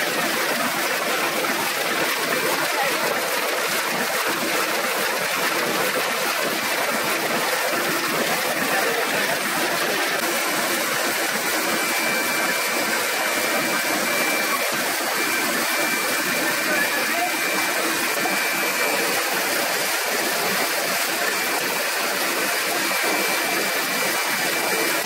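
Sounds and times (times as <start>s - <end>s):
printing press running: 0.0s - 25.0s.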